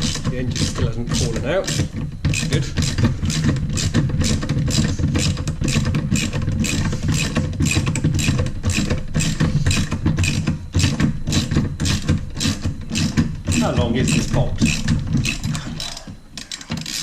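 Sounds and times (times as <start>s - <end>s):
ratchet wrench clicking: 0.0s - 17.0s
steady low hum: 0.0s - 17.0s.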